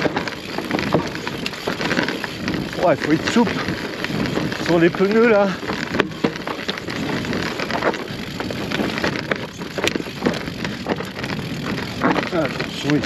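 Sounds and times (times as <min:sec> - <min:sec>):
bike rattling: 0:00.0 - 0:13.0
tyres crunching over stones: 0:00.0 - 0:13.0.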